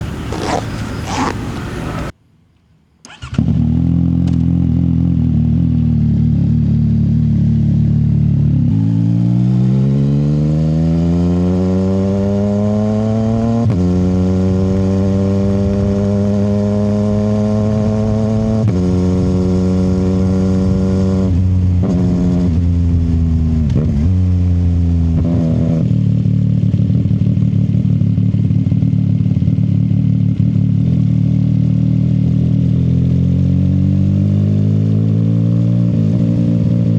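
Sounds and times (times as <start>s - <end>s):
motorcycle engine accelerating: 0.0s - 2.1s, 3.1s - 36.9s.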